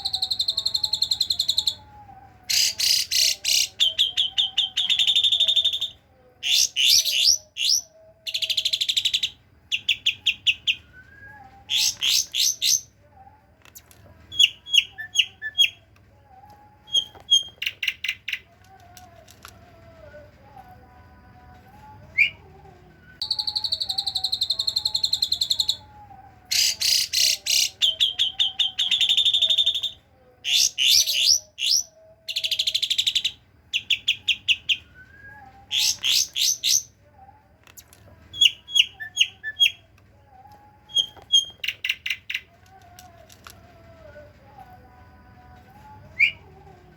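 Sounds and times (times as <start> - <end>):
starling chattering song: 0.0 - 46.9.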